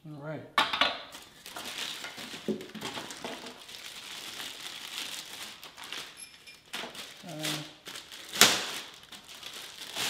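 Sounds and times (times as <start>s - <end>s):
plastic bag crinkling: 1.1s - 10.0s.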